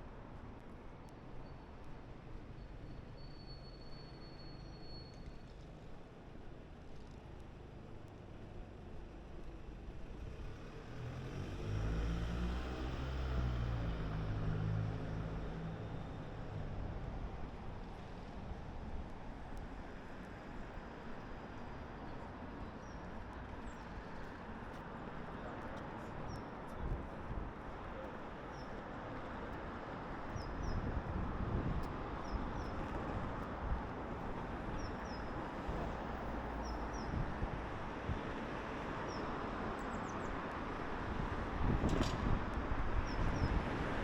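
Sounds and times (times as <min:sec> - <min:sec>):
city traffic hum: 0:05.8 - 0:44.0.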